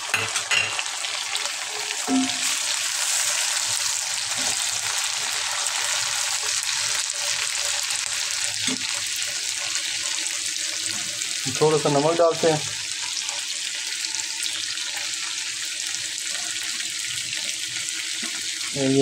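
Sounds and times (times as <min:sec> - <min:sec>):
hot oil sizzling in frying pan: 0:00.0 - 0:19.0.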